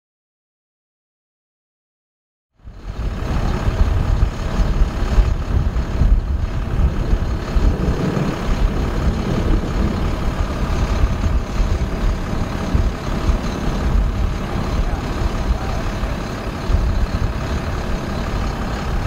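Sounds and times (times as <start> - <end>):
wind buffeting microphone: 2.6 - 19.0.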